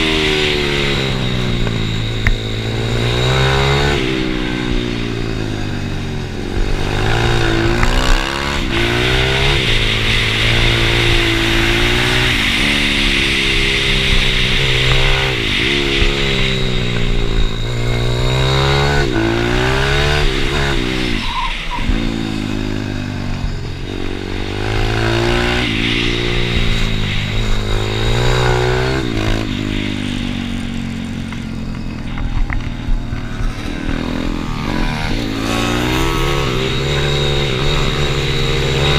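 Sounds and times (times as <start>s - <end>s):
small motorcycle engine revving: 0.0s - 38.9s.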